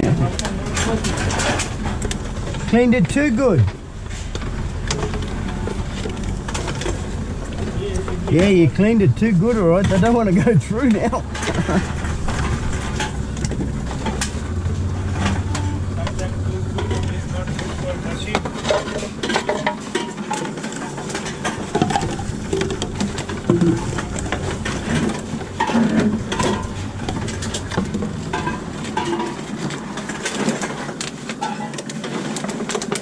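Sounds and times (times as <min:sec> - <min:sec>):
cans and bottles clattering: 0:00.0 - 0:33.0.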